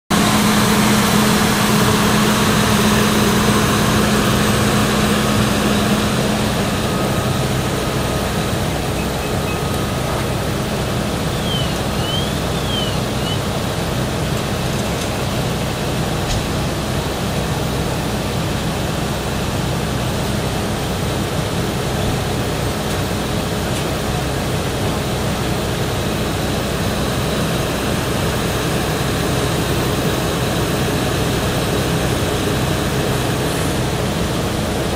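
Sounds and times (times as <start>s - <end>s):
large engine droning: 0.1s - 34.9s.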